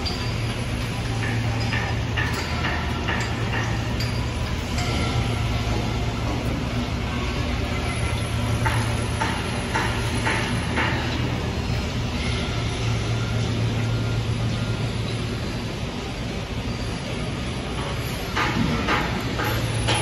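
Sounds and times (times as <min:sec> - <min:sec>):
heavy machinery hum: 0:00.0 - 0:20.0.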